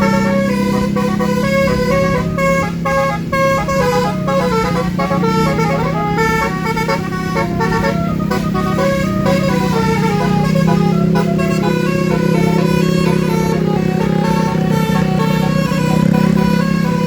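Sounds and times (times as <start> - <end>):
musical vehicle horn melody: 0.0 - 17.0
steady low drone: 0.0 - 17.0.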